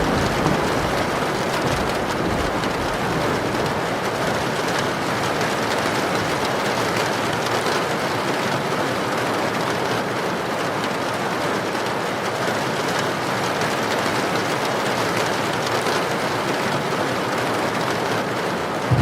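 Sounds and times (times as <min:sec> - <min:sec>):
heavy rain pouring: 0:00.0 - 0:19.0
wind: 0:00.0 - 0:19.0.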